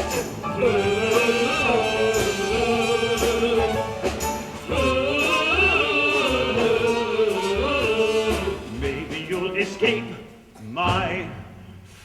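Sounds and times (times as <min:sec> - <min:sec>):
person singing with vibrato: 0:00.0 - 0:11.7.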